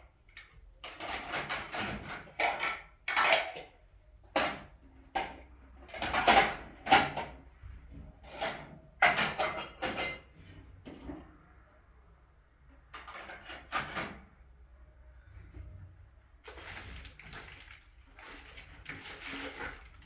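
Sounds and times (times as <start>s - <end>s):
objects scraping and clattering: 0.8s - 3.8s, 4.4s - 11.5s, 12.8s - 14.5s, 15.2s - 20.0s.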